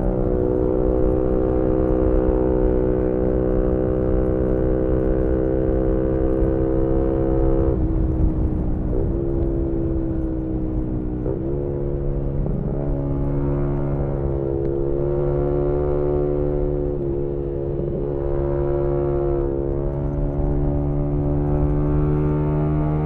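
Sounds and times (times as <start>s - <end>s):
motorcycle engine revving: 0.0s - 23.0s
wind rumble: 0.0s - 23.0s.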